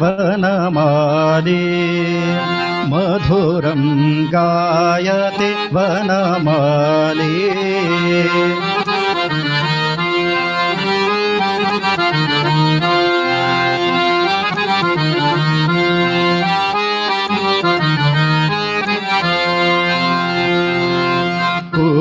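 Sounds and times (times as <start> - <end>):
harmonium melody: 0.0 - 22.0.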